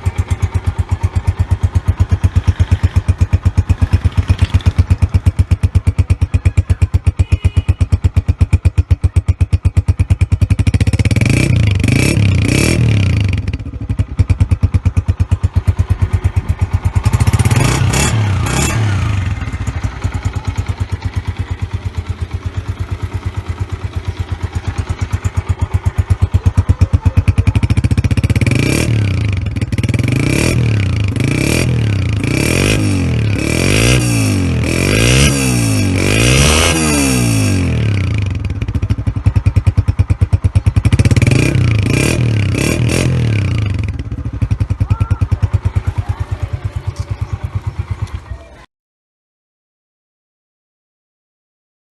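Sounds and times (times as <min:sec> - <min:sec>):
motorcycle engine idling and revving: 0:00.0 - 0:48.7.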